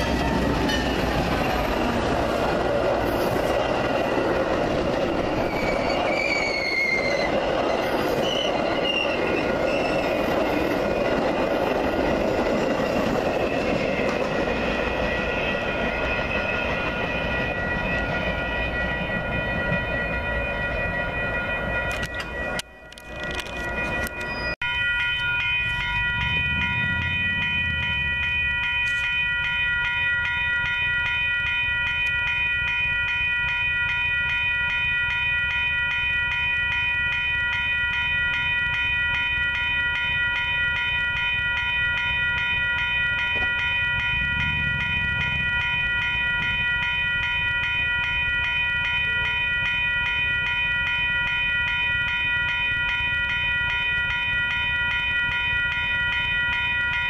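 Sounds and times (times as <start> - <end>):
railroad crossing bell ringing: 0.0 - 57.0.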